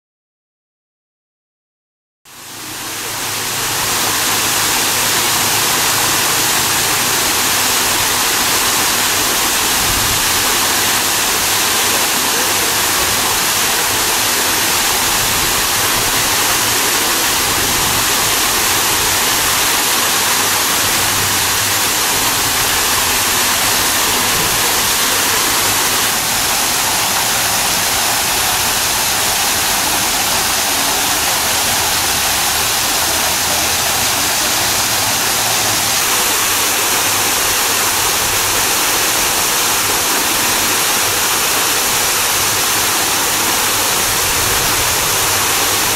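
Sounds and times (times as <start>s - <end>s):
waterfall splashing into pool: 2.3s - 45.9s.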